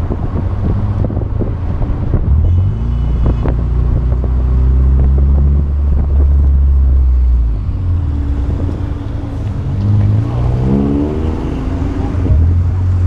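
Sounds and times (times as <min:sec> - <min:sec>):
car engine droning under load: 0:00.0 - 0:13.0.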